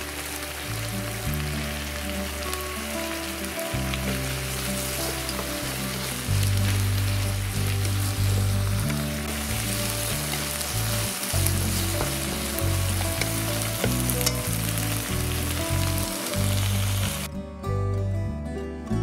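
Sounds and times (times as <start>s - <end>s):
food sizzling in butter: 0.0s - 17.3s.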